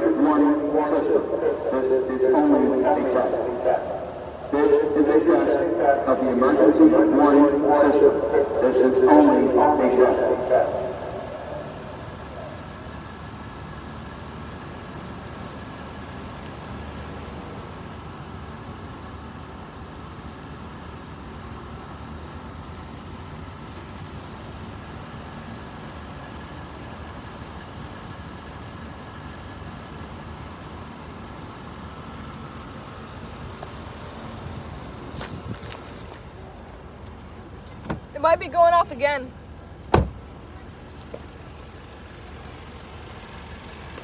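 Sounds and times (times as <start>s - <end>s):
engines idling: 0.0s - 44.0s.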